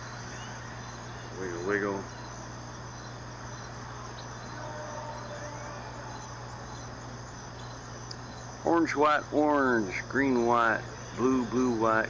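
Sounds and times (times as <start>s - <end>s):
crickets chirring: 0.0s - 12.0s
low steady hum: 0.0s - 12.0s.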